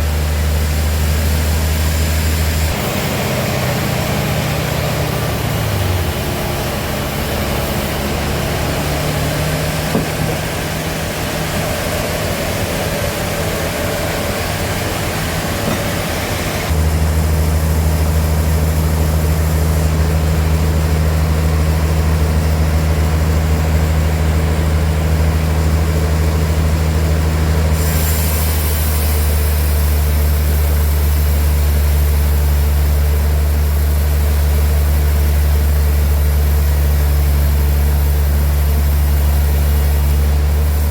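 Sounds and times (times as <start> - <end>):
large engine humming: 0.0 - 40.9.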